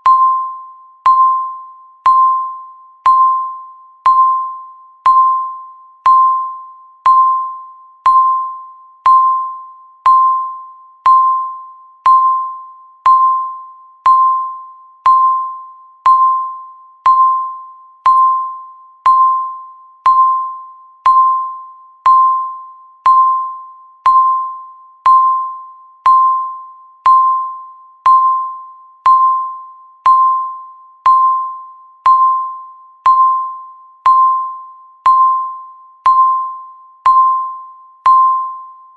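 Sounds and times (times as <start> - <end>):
countdown timer beeping: 0.0 - 38.9.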